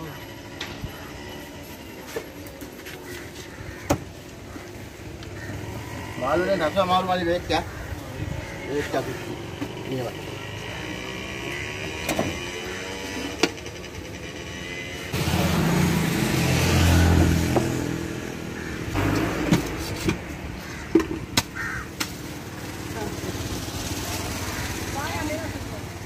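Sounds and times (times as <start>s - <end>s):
motor vehicle passing: 4.5s - 20.9s, 21.6s - 26.0s.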